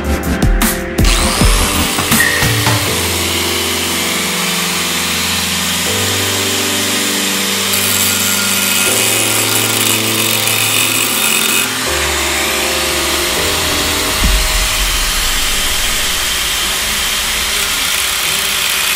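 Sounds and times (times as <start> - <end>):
angle grinder cutting metal: 1.0 - 18.9.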